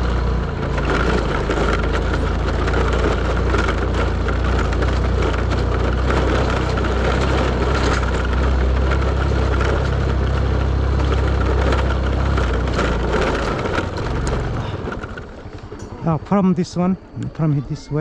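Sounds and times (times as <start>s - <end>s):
gravel crunching under wheels: 0.0s - 18.0s
vehicle engine running: 0.0s - 18.0s.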